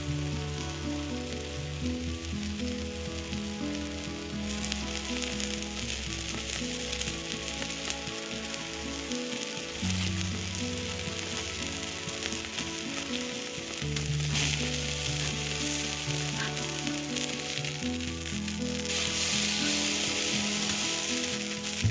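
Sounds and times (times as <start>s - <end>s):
background music with low notes: 0.0s - 21.9s
food sizzling in a pan: 0.0s - 21.9s.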